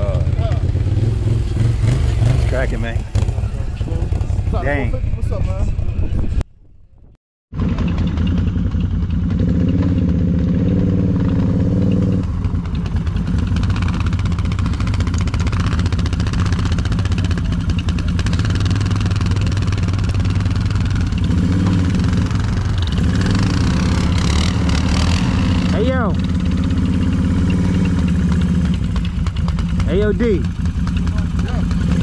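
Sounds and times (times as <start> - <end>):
atv engines running: 0.0 - 6.5, 7.6 - 32.0.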